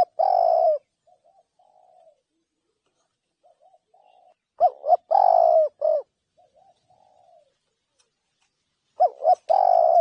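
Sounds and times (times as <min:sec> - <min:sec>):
dove cooing softly: 0:00.0 - 0:08.2, 0:08.9 - 0:10.0.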